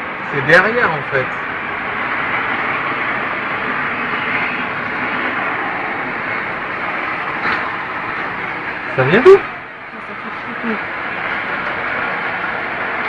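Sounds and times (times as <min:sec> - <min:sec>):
loud steady drone from the sky: 0:00.0 - 0:13.0.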